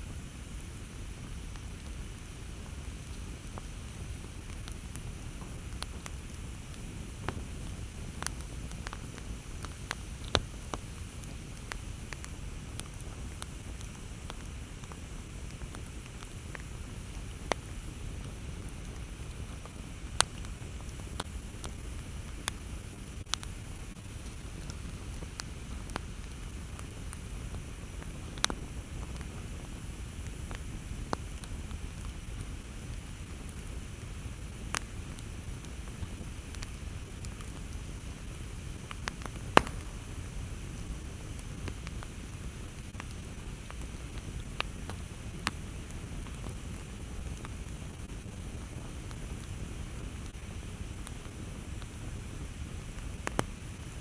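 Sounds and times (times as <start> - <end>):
low fire rumble: 0.0 - 54.0
burning wood popping: 0.2 - 53.9.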